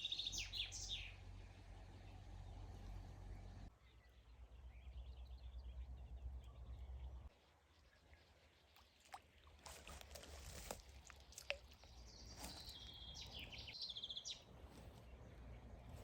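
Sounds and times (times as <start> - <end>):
high trilling birdsong: 0.0 - 8.7, 11.6 - 16.0.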